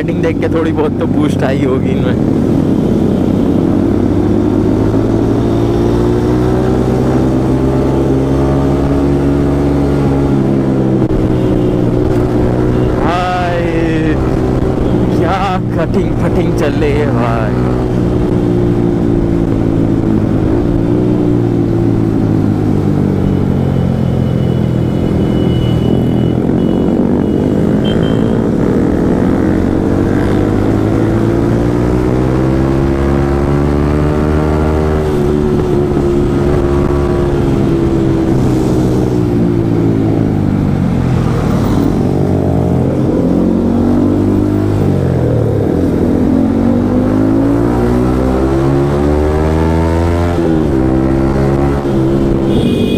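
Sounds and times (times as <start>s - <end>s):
motorcycle engine revving: 0.9s - 52.9s.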